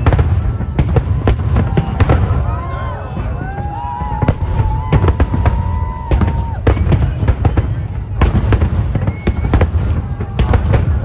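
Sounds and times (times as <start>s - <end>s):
deep firework booms: 0.0s - 11.0s
firework bangs and crackles: 0.0s - 11.0s
whistling fireworks: 0.0s - 11.0s.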